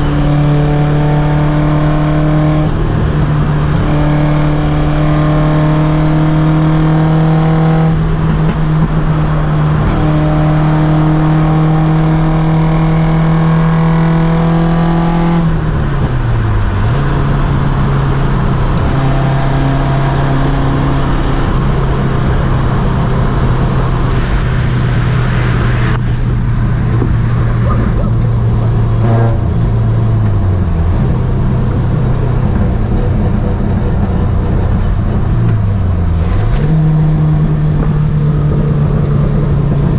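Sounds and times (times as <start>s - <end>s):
car engine at high revs: 0.0s - 39.9s.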